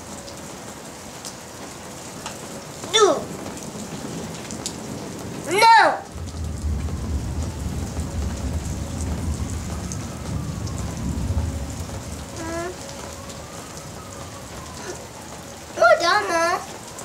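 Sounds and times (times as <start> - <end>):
heavy rain falling: 0.0 - 17.0
thunder rumbling: 2.5 - 17.0.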